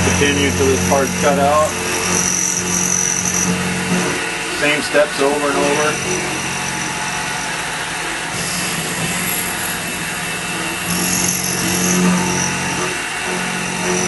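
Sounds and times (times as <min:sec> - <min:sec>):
milling machine motor hum: 0:00.0 - 0:14.0.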